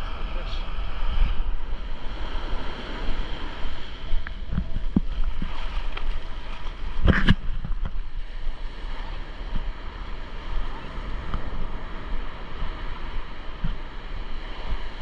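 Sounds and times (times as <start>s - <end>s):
ocean surf washing onto beach: 0.0s - 15.0s
wind buffeting microphone: 0.0s - 15.0s.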